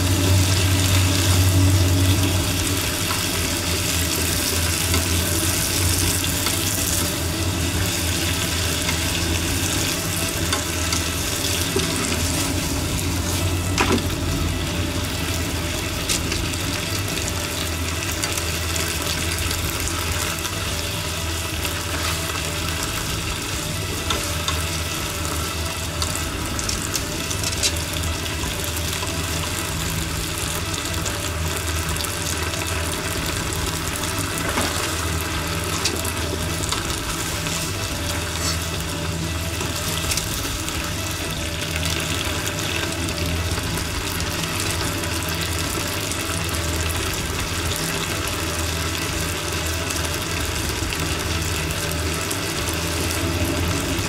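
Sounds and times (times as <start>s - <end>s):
peppers sizzling in a frying pan: 0.0s - 54.0s.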